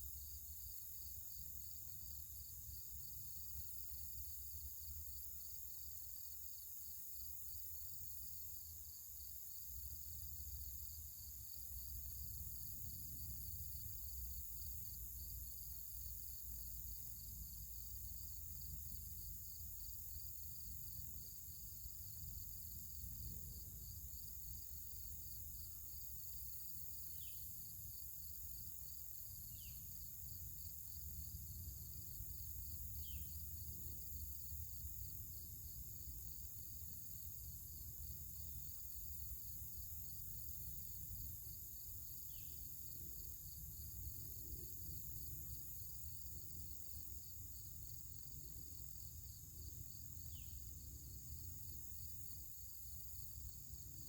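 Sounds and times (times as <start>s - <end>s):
high hiss of insects: 0.0s - 54.0s.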